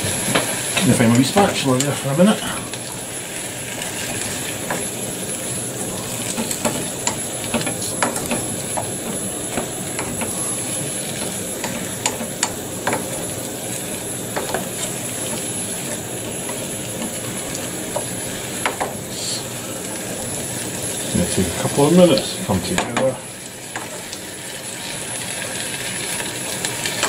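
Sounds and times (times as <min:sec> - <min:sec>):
cooking hiss: 0:00.0 - 0:27.0.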